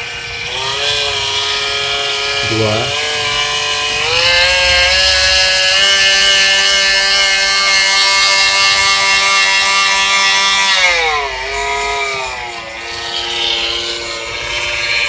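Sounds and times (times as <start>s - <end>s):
multi-tool motor whining: 0.0s - 15.0s.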